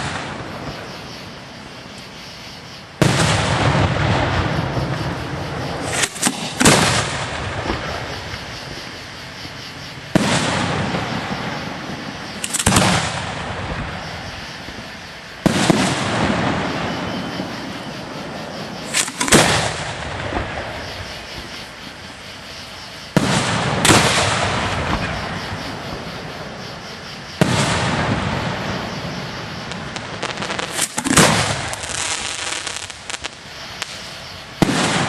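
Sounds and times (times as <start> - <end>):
sharp firework bangs: 0.0 - 1.0, 3.0 - 8.9, 10.0 - 21.8, 23.1 - 26.6, 27.4 - 35.0
loud firework booms: 0.0 - 1.4, 3.0 - 9.0, 10.0 - 22.2, 23.0 - 35.0.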